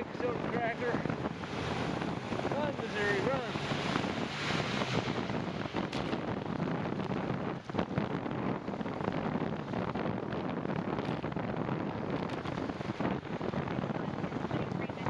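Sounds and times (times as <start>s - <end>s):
fine crackling of rain: 0.0s - 15.0s
wind buffeting microphone: 0.0s - 15.0s.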